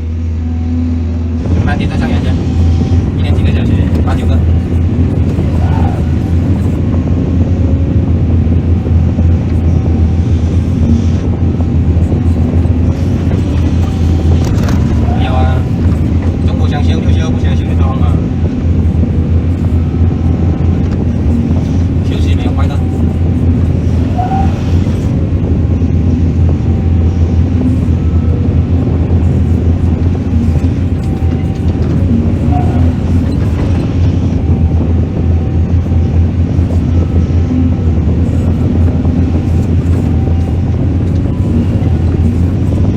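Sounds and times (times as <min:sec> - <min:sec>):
heavy diesel engine droning: 0:00.0 - 0:42.9
wind buffeting microphone: 0:01.0 - 0:42.9.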